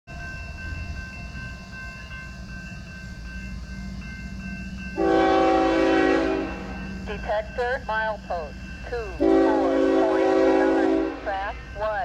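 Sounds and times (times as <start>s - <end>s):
diesel locomotive engine rumble: 0.1s - 12.0s.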